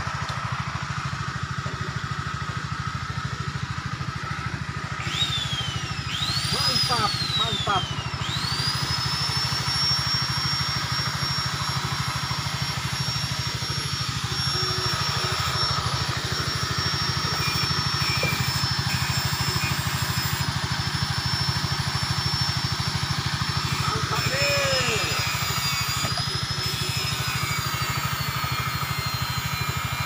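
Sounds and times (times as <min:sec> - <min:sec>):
motor pulsing drone with whine: 0:00.0 - 0:30.0.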